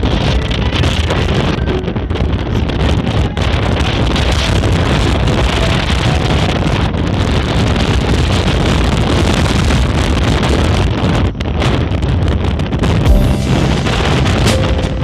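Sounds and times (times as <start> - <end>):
wind buffeting microphone: 0.0 - 13.1.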